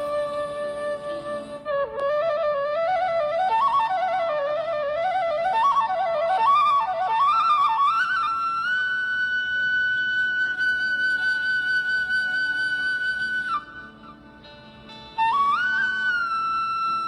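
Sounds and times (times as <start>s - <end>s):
ornamented solo melody: 0.0s - 17.0s.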